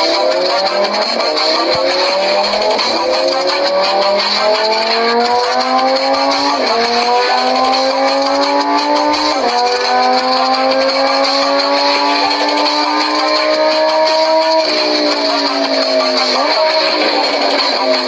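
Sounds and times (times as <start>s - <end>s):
engine accelerating through gears: 0.0s - 18.0s.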